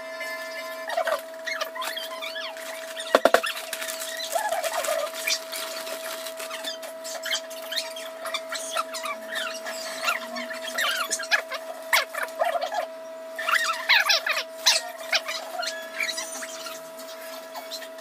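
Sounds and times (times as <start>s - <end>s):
steady high hum: 0.0s - 18.0s.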